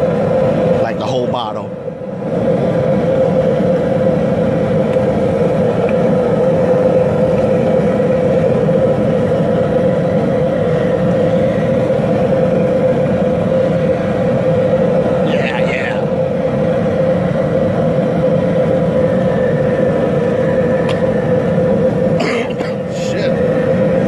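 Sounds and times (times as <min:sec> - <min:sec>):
jet burner rushing: 0:00.0 - 0:24.0
water boiling: 0:00.0 - 0:24.0.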